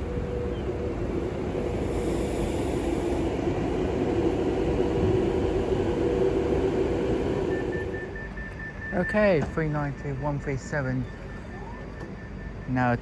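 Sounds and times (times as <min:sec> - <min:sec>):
electric train humming: 0:00.0 - 0:13.0
train rumbling: 0:00.0 - 0:13.0.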